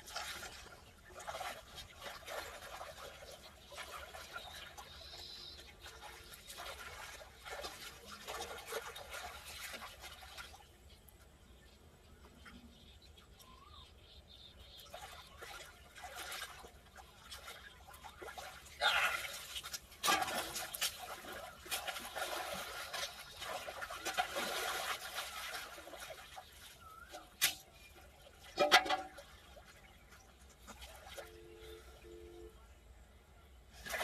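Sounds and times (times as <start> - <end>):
muddy water splashing: 0.0 - 32.5, 33.4 - 34.0.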